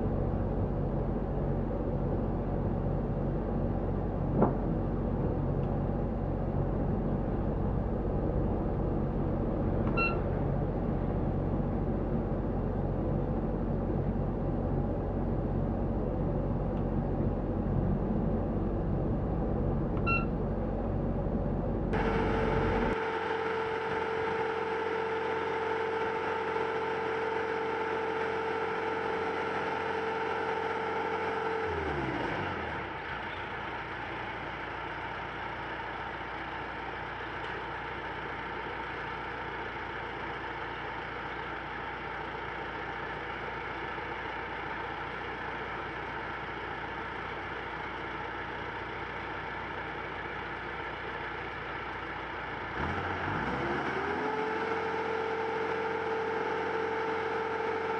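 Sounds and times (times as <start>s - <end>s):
boat engine whining and idling: 0.0s - 57.9s.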